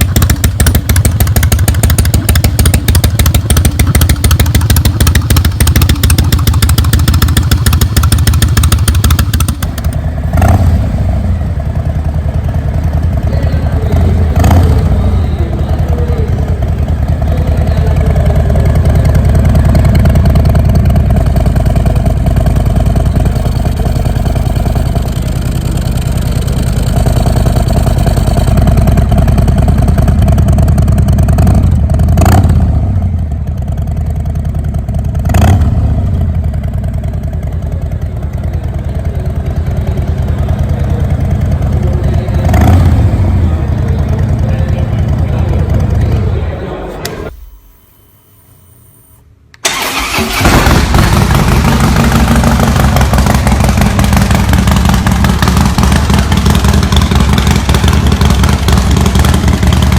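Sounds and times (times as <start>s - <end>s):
engine throttle blips: 0.0s - 59.9s
motorcycle engine exhaust: 0.0s - 59.9s.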